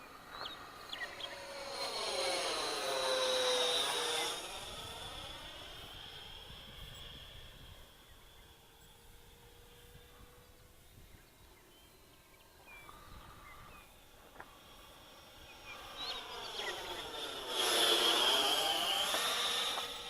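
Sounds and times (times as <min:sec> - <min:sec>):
electric ducted fan jet whine: 0:00.0 - 0:20.0.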